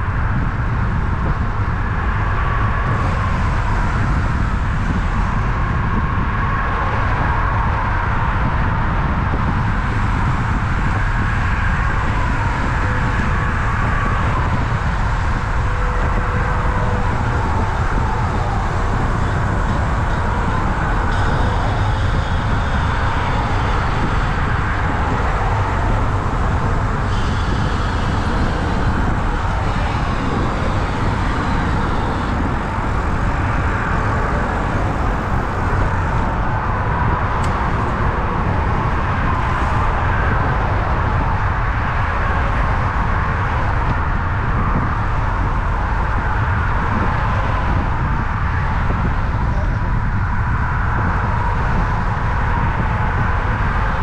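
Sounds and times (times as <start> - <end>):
highway traffic rushing: 0.0 - 54.0.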